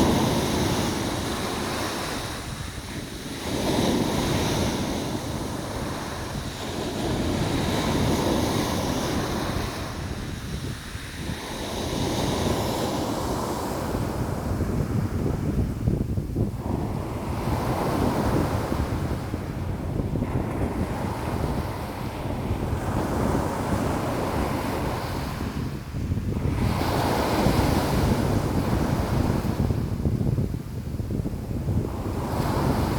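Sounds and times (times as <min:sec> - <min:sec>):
sea waves washing in: 0:00.0 - 0:32.9
wind buffeting microphone: 0:00.0 - 0:32.9.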